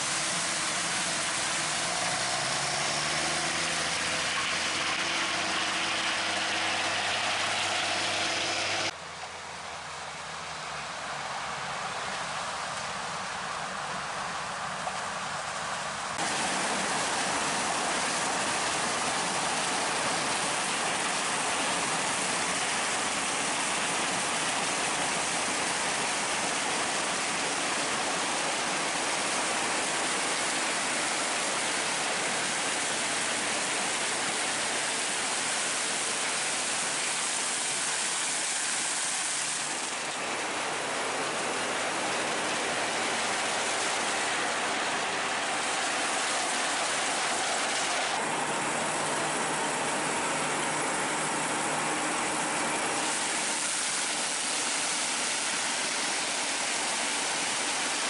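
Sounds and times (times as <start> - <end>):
combine harvester rushing: 0.0 - 58.0.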